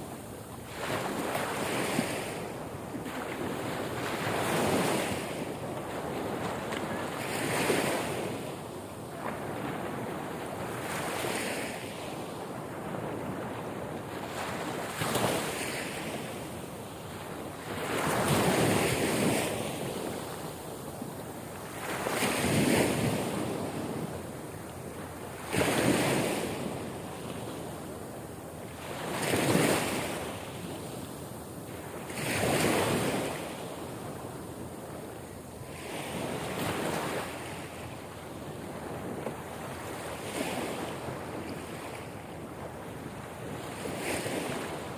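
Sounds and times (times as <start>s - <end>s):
steady wash of surf: 0.0s - 44.9s
waves breaking on shore: 0.0s - 44.9s.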